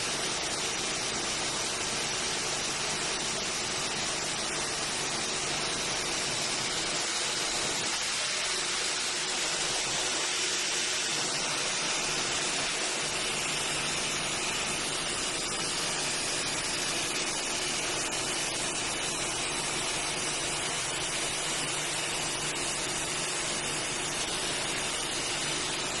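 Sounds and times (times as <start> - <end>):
machine rushing hiss: 4.0 - 26.0.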